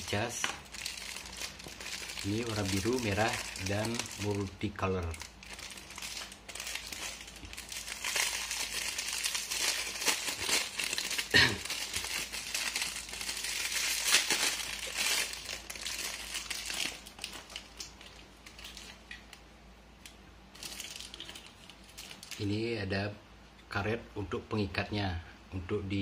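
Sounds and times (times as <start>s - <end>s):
plastic wrapping crinkling: 0.0s - 19.4s, 20.5s - 22.6s.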